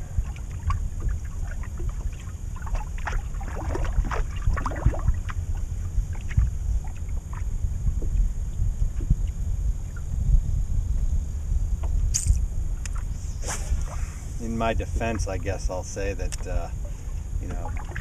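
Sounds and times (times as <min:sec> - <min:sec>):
water lapping against boat hull: 0:00.0 - 0:10.2, 0:12.9 - 0:18.0
low rumble: 0:00.0 - 0:18.0
wind buffeting microphone: 0:00.0 - 0:18.0.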